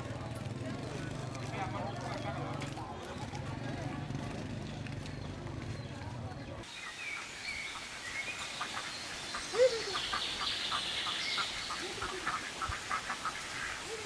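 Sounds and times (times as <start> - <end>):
birds chirping and twittering: 1.8 - 14.0.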